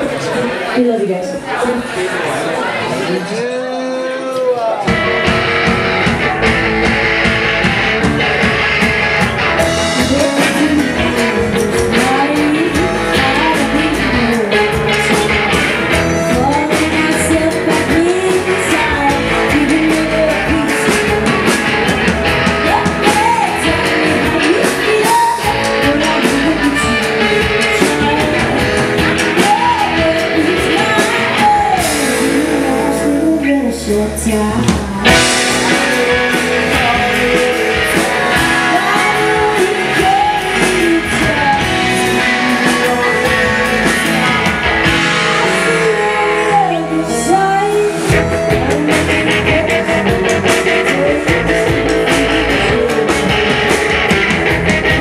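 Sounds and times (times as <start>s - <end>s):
drums: 0.0s - 55.0s
singer singing: 2.6s - 8.0s, 9.5s - 55.0s
electric guitars: 2.6s - 55.0s.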